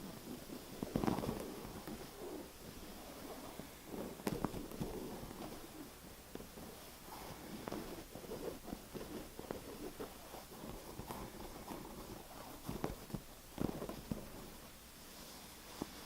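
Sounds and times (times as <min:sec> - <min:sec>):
scratchy rubbing: 0:00.0 - 0:14.6.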